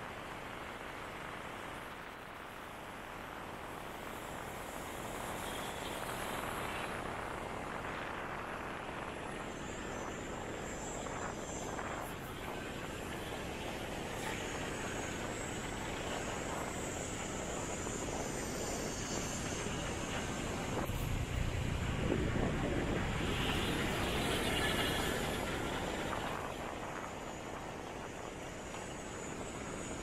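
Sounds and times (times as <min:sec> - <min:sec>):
rush of air and tyres: 0:00.1 - 0:30.0
surrounding car traffic: 0:00.1 - 0:30.0.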